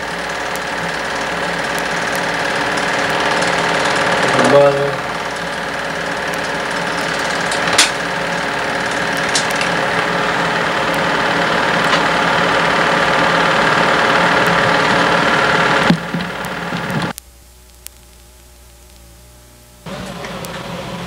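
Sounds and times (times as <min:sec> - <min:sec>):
film projector rattling: 0:00.0 - 0:17.2
projector clicks: 0:00.0 - 0:20.7.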